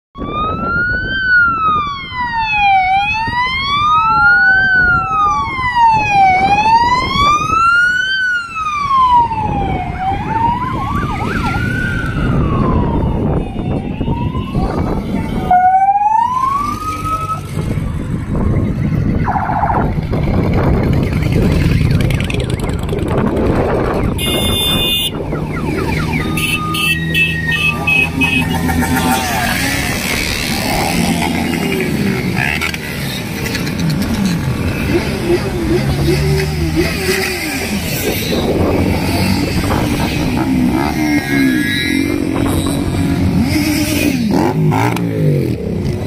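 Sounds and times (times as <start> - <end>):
siren wailing: 0.2 - 32.7, 36.6 - 45.5
motorcycle engines rumbling: 0.2 - 46.0.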